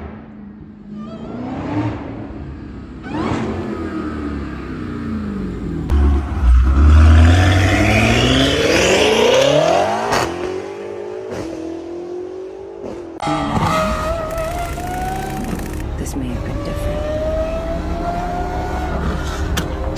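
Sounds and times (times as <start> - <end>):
car engine accelerating hard: 0.0 - 19.9
car engines revving lightly: 0.1 - 19.9.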